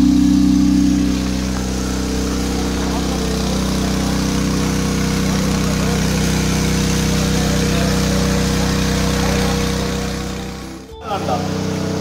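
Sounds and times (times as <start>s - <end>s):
water pump running: 0.0s - 12.0s.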